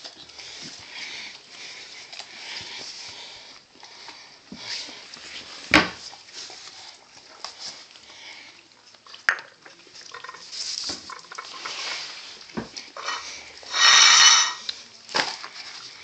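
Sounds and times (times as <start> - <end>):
dogs eating and licking: 0.0 - 13.7, 14.6 - 16.0.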